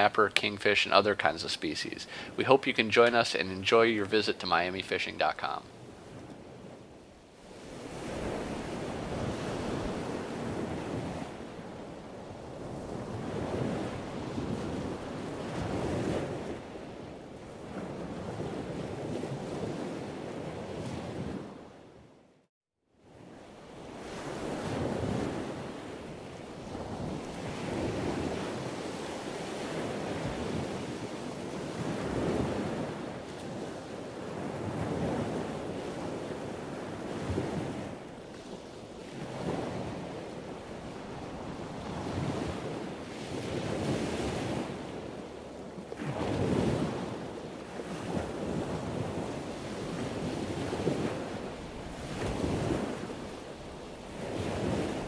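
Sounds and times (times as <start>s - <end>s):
ocean waves washing: 0.0s - 21.8s, 23.1s - 55.0s
wind on microphone: 5.8s - 21.7s, 23.9s - 45.3s, 46.0s - 55.0s.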